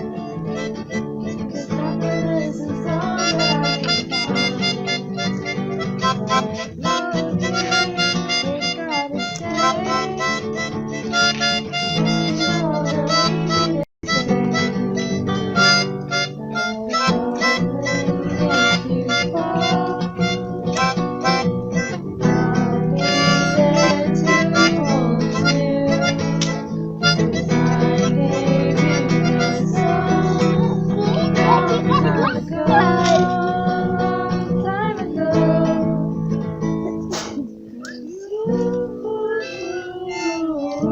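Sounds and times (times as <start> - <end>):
harmonica: 0.0 - 40.9
strummed acoustic guitar: 0.0 - 40.9.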